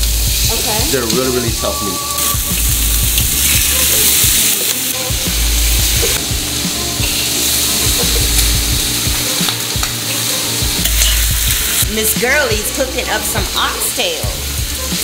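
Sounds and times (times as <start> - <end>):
meat sizzling in a wok: 0.0 - 15.0.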